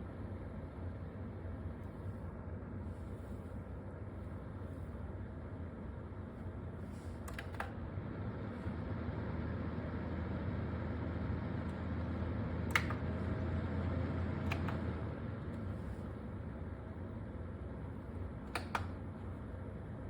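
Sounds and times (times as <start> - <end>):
fan humming: 0.0 - 20.0.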